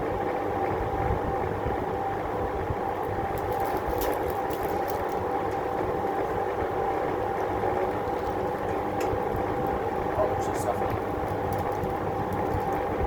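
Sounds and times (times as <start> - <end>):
box fan motor hum: 0.0 - 13.0
rushing air from fan: 0.0 - 13.0.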